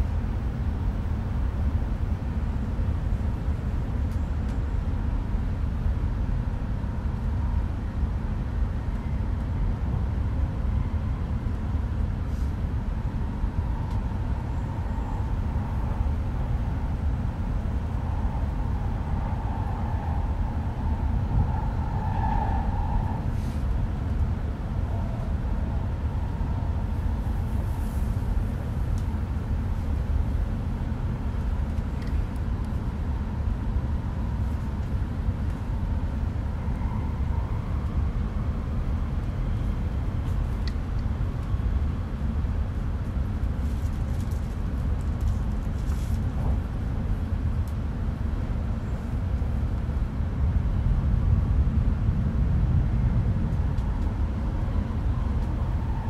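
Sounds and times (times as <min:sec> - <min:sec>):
train passing alongside: 0:00.0 - 0:56.0
train running rumble: 0:00.0 - 0:56.0.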